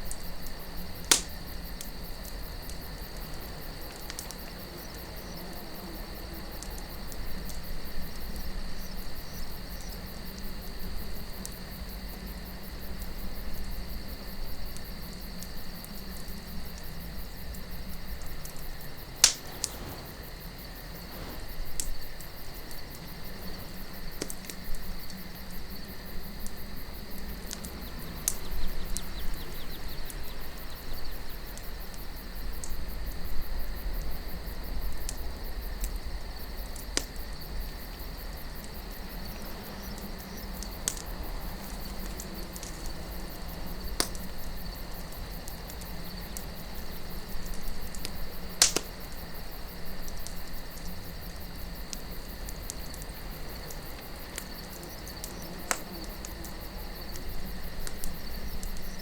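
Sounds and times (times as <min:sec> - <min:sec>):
campfire crackling and popping: 0:00.0 - 0:59.0
crickets chirring: 0:00.0 - 0:59.0
soft low wind: 0:00.0 - 0:59.0.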